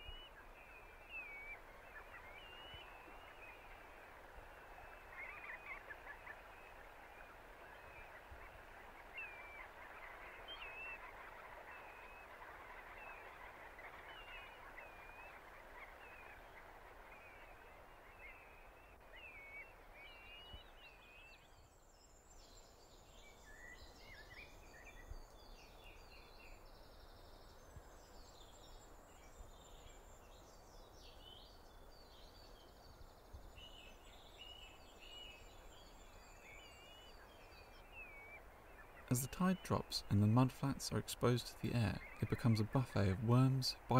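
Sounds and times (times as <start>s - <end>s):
dawn chorus birdsong: 0.0s - 43.9s.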